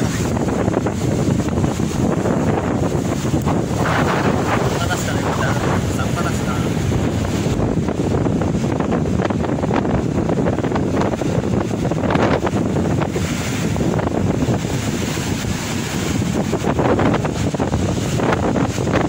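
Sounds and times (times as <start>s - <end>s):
ocean waves breaking on rocks: 0.0s - 19.0s
wind buffeting microphone: 0.0s - 19.0s.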